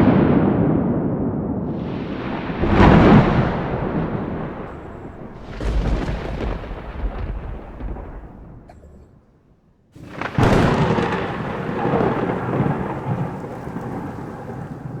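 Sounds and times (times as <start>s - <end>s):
thunder crack and rumble: 0.0s - 15.0s
rain falling: 1.7s - 8.7s, 10.0s - 15.0s.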